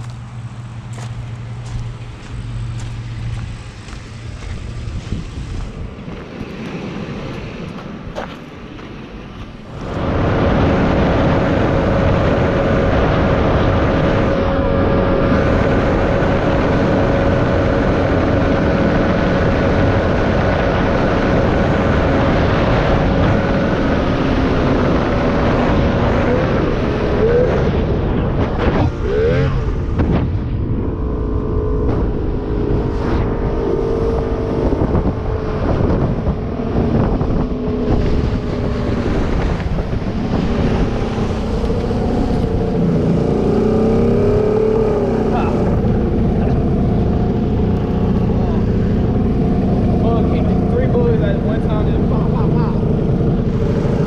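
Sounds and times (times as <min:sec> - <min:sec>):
wind buffeting microphone: 0:00.0 - 0:54.0
boat motor running: 0:09.7 - 0:54.0.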